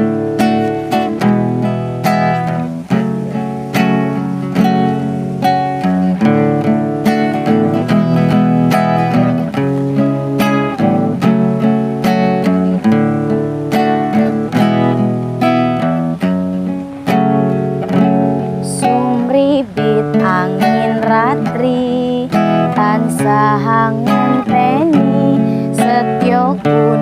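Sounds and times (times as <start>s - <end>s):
acoustic guitar plucked and strummed: 0.0s - 27.0s.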